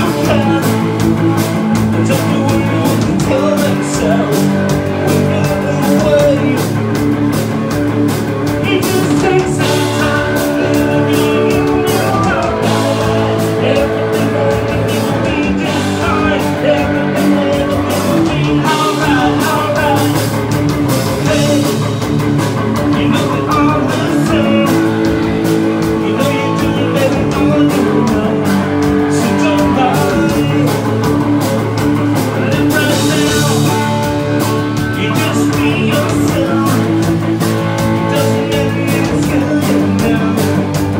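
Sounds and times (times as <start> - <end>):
electric bass guitar: 0.0 - 40.9
electric guitar: 0.0 - 40.9
live rock band playing: 0.0 - 40.9.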